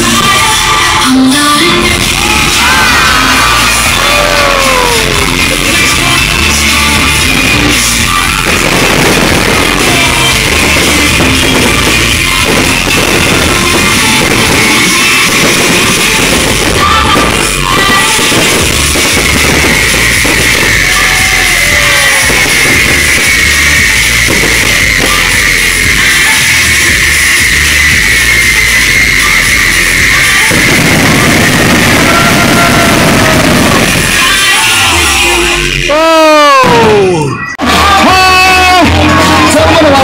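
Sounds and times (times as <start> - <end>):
pounding drum kit: 0.0 - 39.9
loud rock music: 0.0 - 40.0.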